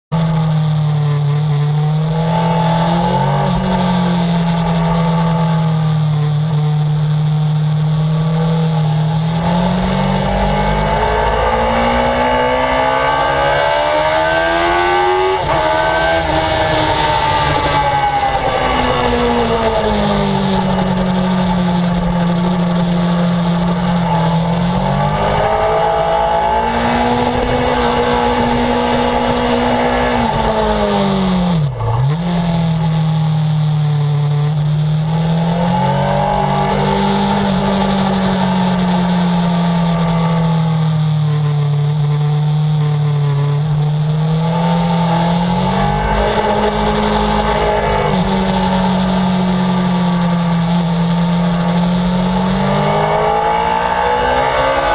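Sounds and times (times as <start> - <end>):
motorcycle engine at high revs: 0.0 - 54.9.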